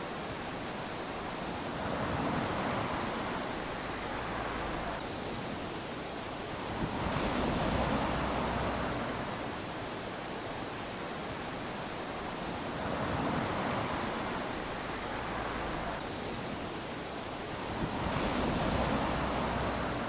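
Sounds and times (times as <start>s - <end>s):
waves washing onto beach: 0.0s - 20.0s.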